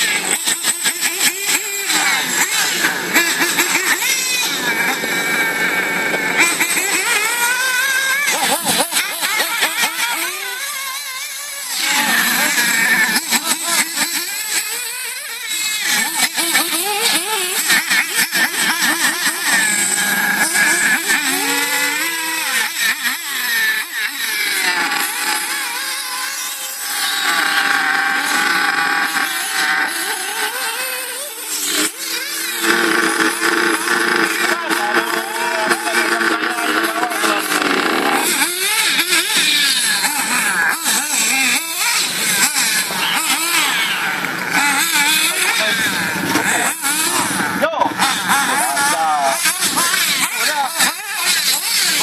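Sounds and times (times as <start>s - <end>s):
model car motors whining: 0.0s - 52.0s.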